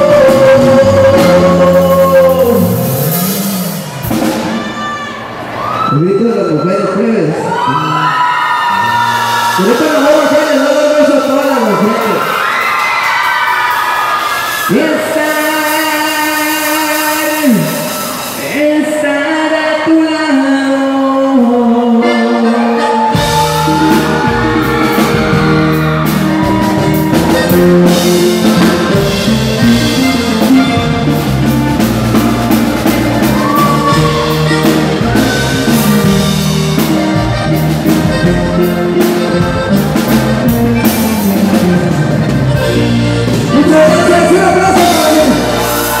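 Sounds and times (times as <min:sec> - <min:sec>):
live band playing loud: 0:00.0 - 0:05.6, 0:08.2 - 0:46.0.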